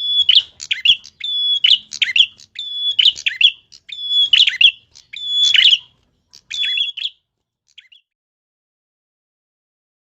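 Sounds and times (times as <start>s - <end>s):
songbird singing: 0.0s - 8.1s.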